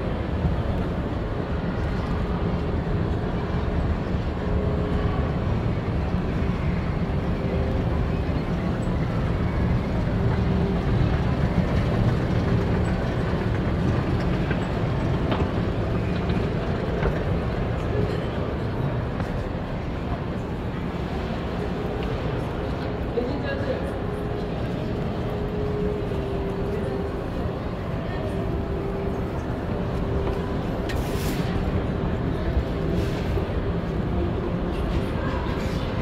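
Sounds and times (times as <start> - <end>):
shopping mall hum: 0.0 - 36.0.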